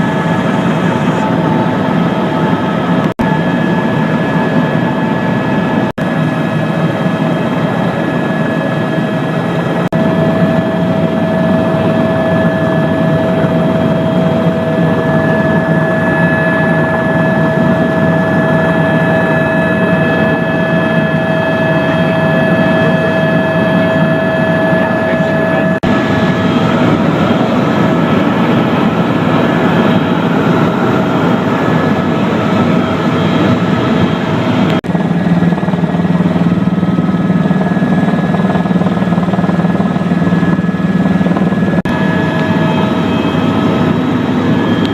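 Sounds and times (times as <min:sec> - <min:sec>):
helicopter turbine and rotor: 0:00.0 - 0:44.9.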